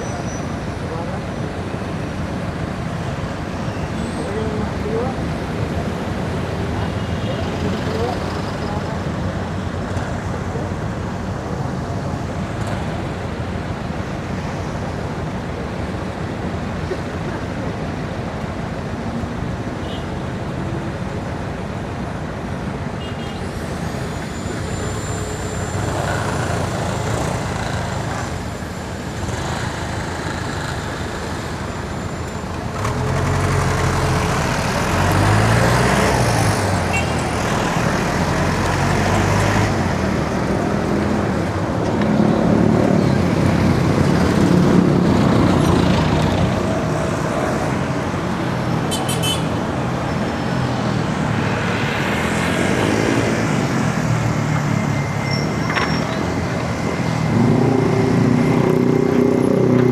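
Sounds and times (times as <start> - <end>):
road traffic: 0.0 - 59.9.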